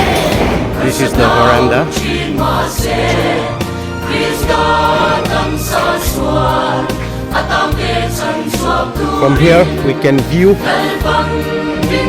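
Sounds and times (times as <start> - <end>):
gospel choir singing over beat: 0.0 - 12.0.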